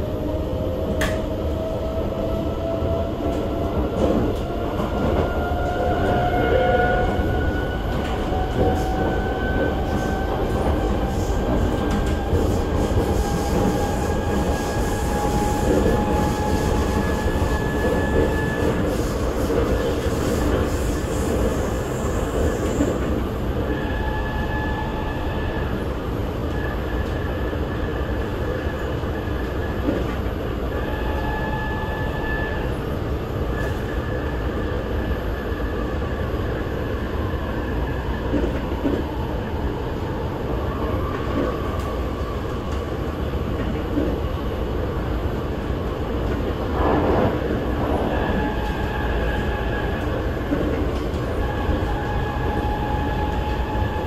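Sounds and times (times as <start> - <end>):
train rolling rumble: 0.0 - 54.0.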